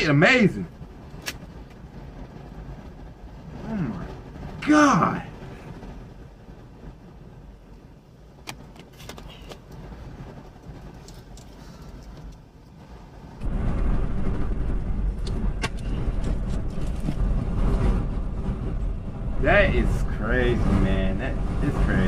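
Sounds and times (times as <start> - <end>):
car rumbling while moving: 0.0 - 22.0.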